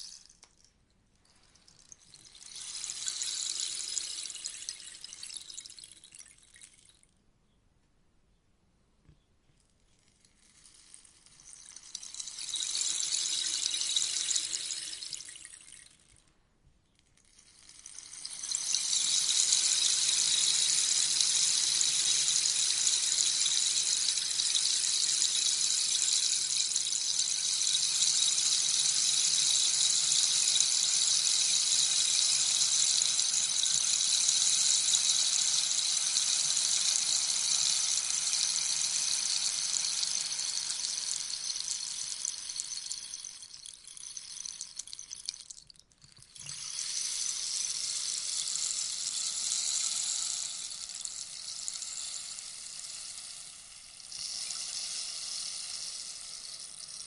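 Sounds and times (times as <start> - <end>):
rainstick beads trickling: 0.0 - 0.7, 1.3 - 7.0, 9.8 - 16.3, 17.0 - 57.0.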